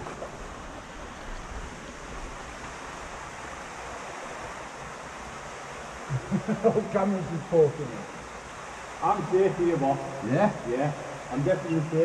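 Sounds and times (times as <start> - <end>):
water rushing through tunnel: 0.0 - 12.0.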